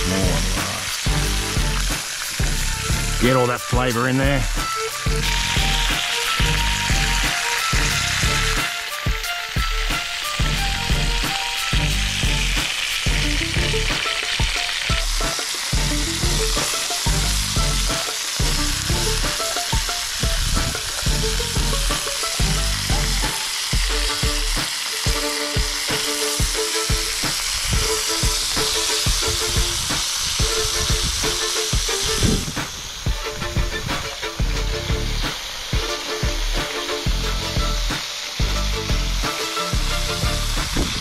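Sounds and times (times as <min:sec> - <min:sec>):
background music with steady beat: 0:00.0 - 0:41.0
food sizzling in butter: 0:00.0 - 0:41.0.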